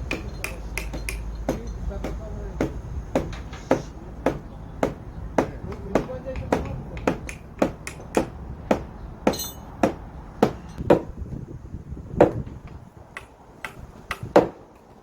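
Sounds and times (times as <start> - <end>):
hammer blows on timber: 0.0 - 11.1, 12.2 - 14.9.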